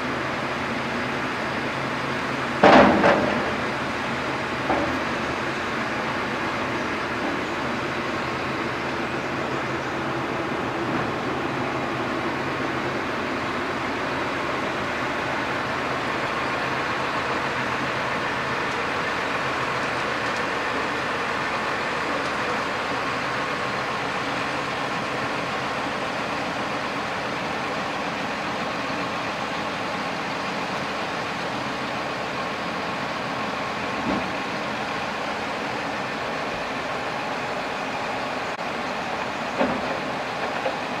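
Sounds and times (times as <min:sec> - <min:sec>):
wood chipper running: 0:00.0 - 0:41.0.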